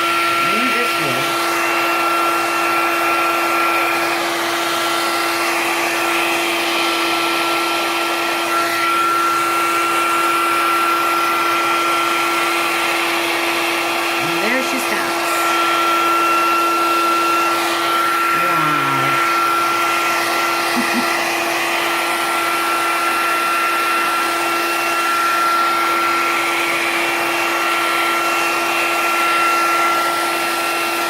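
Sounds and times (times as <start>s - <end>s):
blow dryer running: 0.0s - 31.0s.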